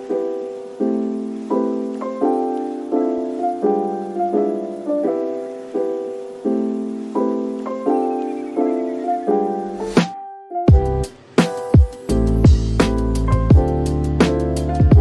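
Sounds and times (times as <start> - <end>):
piano keyboard chords: 0.0 - 15.0.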